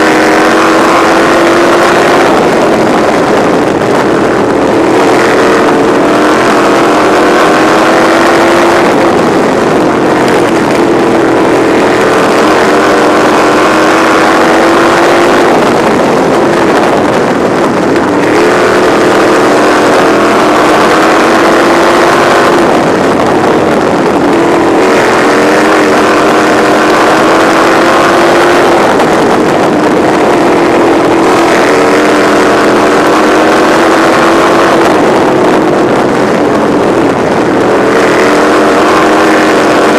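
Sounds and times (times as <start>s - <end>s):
racing car engine revving: 0.0s - 39.9s.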